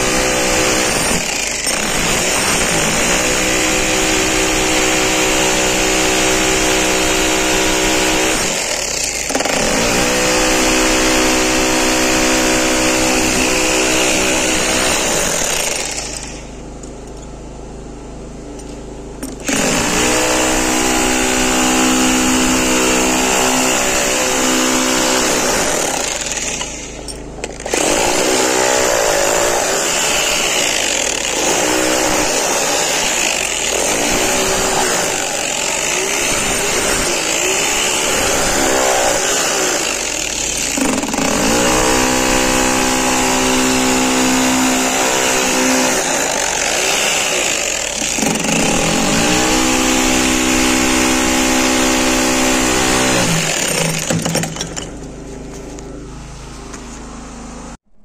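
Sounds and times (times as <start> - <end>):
demolition hammer on concrete: 0.0 - 17.4, 18.5 - 55.3.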